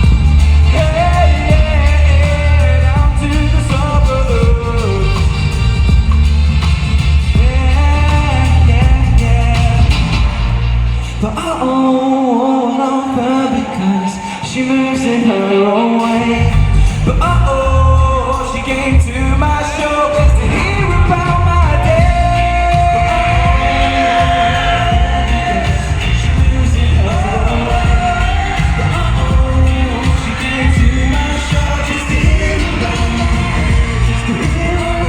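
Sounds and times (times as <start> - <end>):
live pop song with vocals: 0.0 - 35.0.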